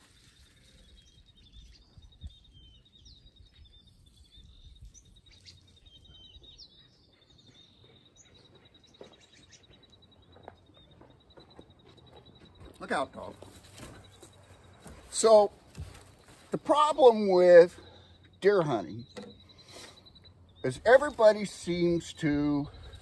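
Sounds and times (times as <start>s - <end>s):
bird chirps: 0.0s - 23.0s.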